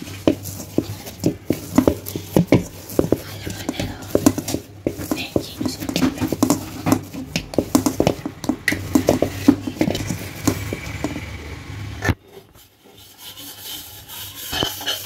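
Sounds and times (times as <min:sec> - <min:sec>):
hands kneading dough: 0:00.0 - 0:15.0.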